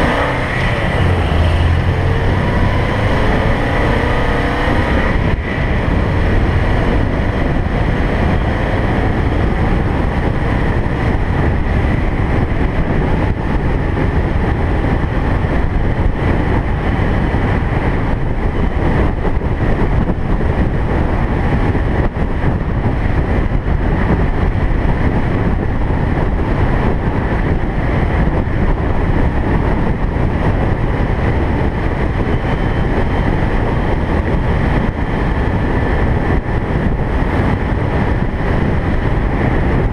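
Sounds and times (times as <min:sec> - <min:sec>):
car road and engine noise: 0:00.0 - 0:39.9
wind noise: 0:00.0 - 0:39.9.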